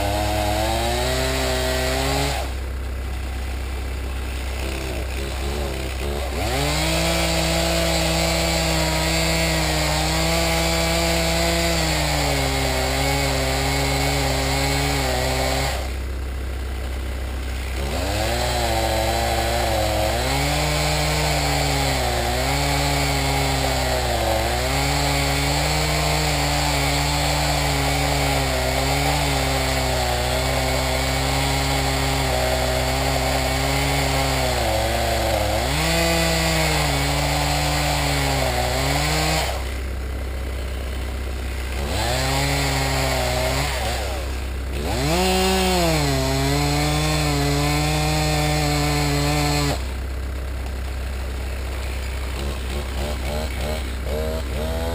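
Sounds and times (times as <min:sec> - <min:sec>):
chainsaw cutting at high revs: 0:00.0 - 0:54.9.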